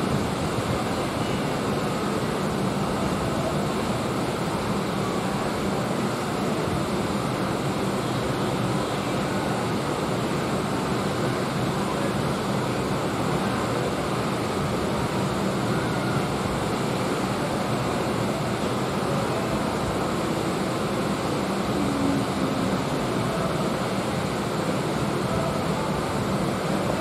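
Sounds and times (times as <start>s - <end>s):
even ambient rush: 0.0s - 27.0s
faint steady hums: 0.0s - 27.0s.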